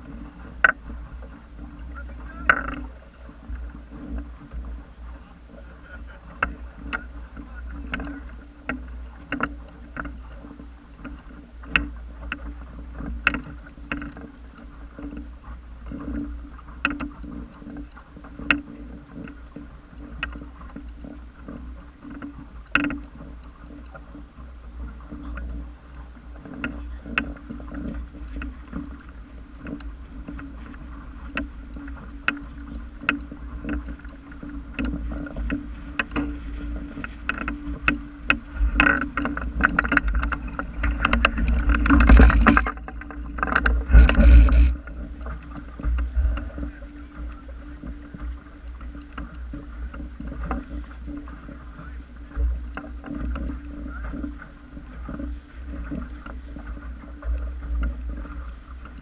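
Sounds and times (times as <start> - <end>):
low steady rumble: 0.0 - 59.0
water slapping against wooden hull: 0.0 - 59.0.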